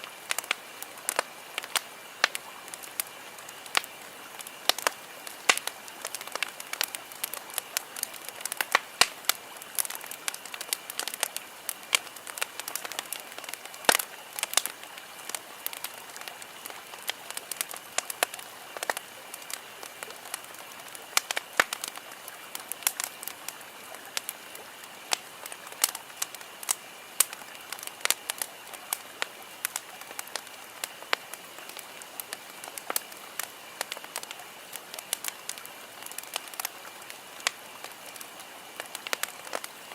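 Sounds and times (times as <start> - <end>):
campfire crackling and popping: 0.0 - 39.9
fire hiss: 0.0 - 39.9.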